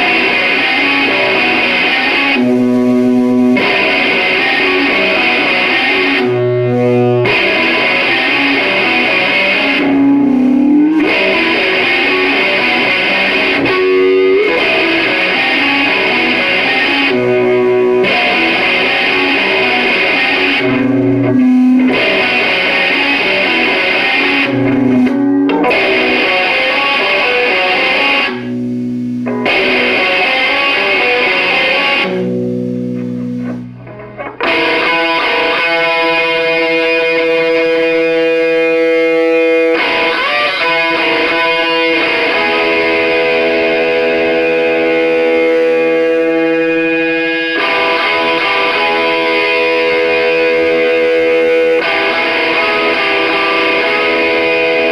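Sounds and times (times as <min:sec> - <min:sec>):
strummed electric guitar chords: 0:00.0 - 0:54.9.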